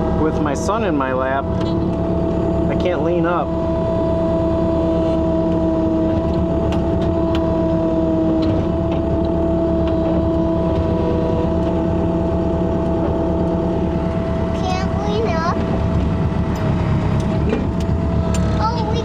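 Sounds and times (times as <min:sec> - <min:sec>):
loader engine running: 0:00.0 - 0:19.0.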